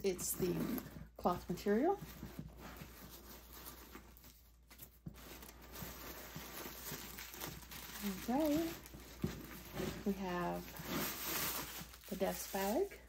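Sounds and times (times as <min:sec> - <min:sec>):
tissue paper rustling: 0:01.5 - 0:13.0.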